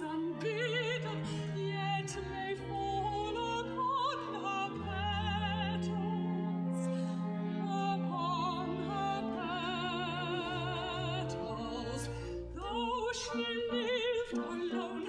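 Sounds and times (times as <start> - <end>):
sustained instrumental accompaniment: 0.3 - 15.0.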